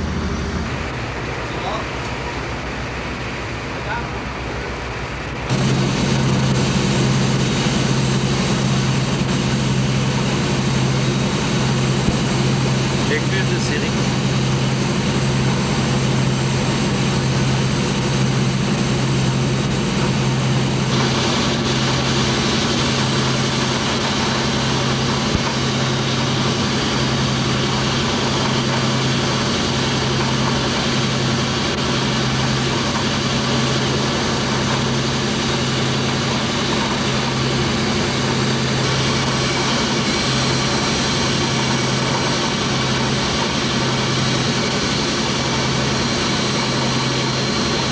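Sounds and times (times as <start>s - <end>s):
boat diesel engine droning: 0.0s - 47.9s.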